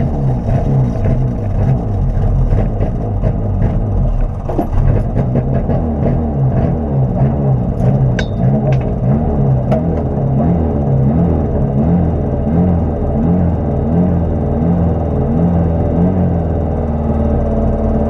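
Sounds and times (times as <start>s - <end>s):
car engine idling unevenly: 0.0s - 18.0s.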